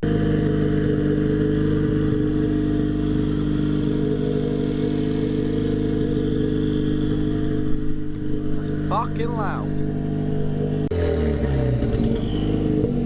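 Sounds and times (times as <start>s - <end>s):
race car engine idling: 0.0s - 13.0s.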